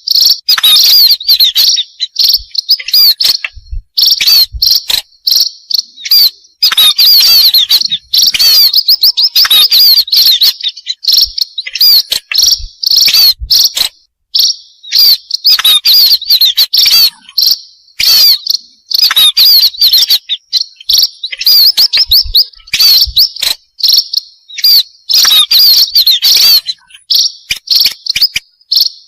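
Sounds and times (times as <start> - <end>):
flock of small birds chirping: 0.0 - 29.0.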